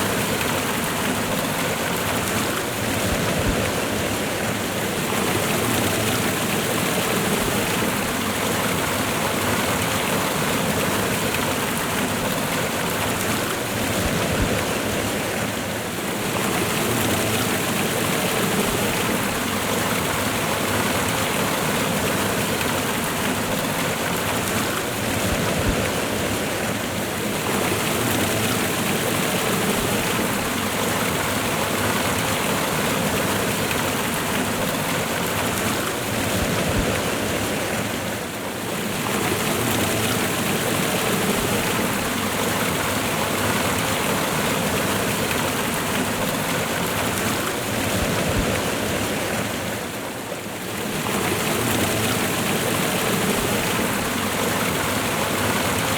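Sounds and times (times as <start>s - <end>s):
waterfall and river rushing: 0.0s - 55.9s.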